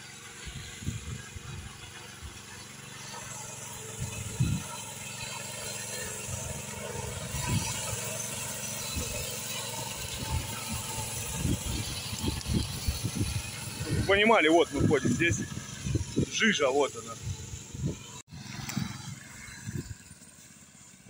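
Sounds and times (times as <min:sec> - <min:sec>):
small tractor engine running: 0:00.0 - 0:21.0.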